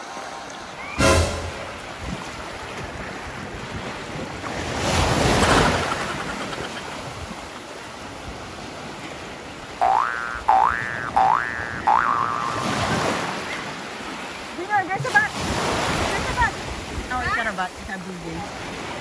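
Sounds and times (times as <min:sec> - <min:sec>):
ocean surf washing: 0:00.0 - 0:19.0.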